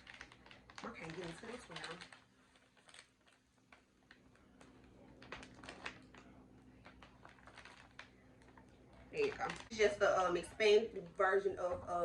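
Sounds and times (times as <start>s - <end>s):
candy being crunched and chewed: 0.0s - 9.8s.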